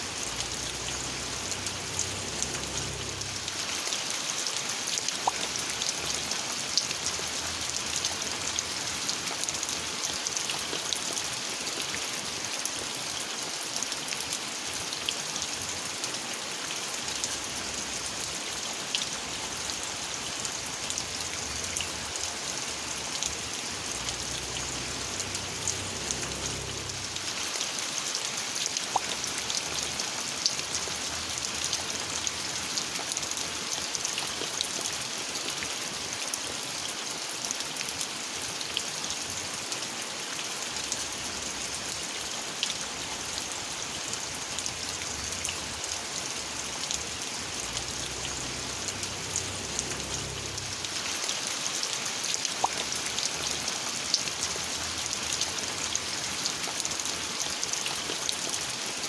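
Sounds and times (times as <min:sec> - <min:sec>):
raindrops ticking on surfaces: 0:00.0 - 0:59.0
steady rain falling: 0:00.0 - 0:59.0.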